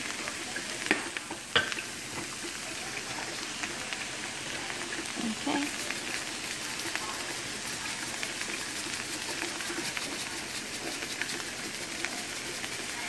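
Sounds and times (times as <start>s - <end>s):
potatoes and onions frying in oil: 0.0s - 13.0s.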